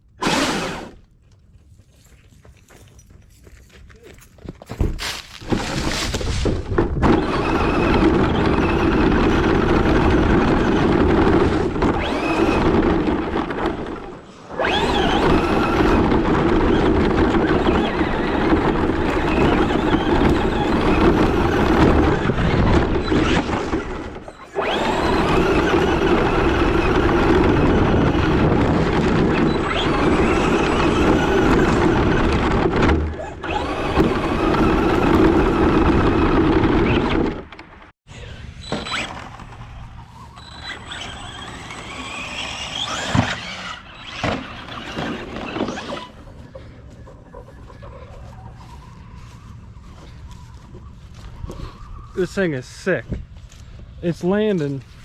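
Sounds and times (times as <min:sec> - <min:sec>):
tyre noise: 0:00.0 - 0:55.0
electric motor whine: 0:00.2 - 0:01.0, 0:07.0 - 0:37.5, 0:38.1 - 0:52.3.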